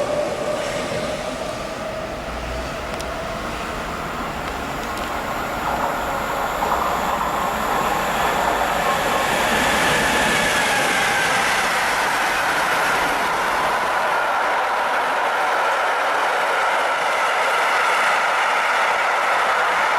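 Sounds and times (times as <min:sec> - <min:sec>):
wheel and rail whining: 0:00.0 - 0:19.8
train passing on track: 0:00.0 - 0:19.9.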